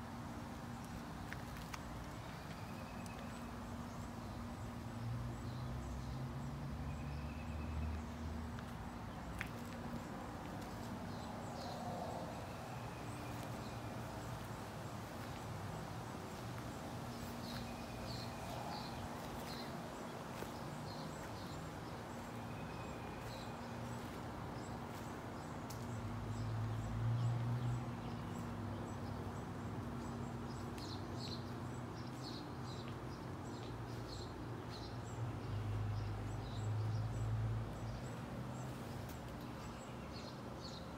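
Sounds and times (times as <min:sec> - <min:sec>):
small birds chirping: 0:00.8 - 0:40.9.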